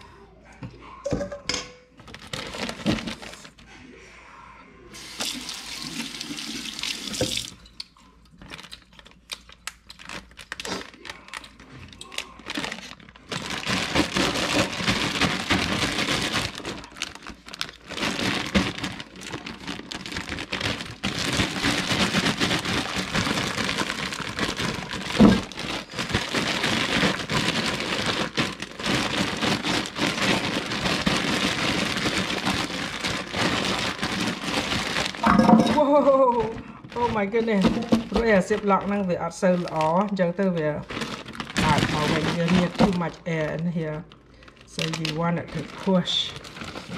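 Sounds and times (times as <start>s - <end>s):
plastic bag crinkling: 2.0s - 3.7s, 8.3s - 46.9s.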